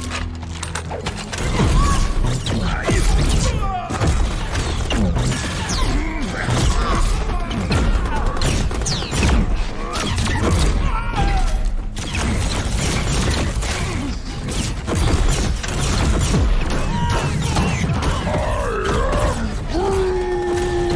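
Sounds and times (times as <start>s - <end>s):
action film music: 0.0s - 20.9s.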